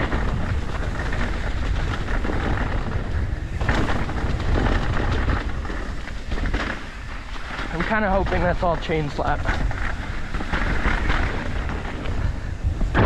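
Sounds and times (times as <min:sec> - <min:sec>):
bike rattling over rough trail: 0:00.0 - 0:13.0.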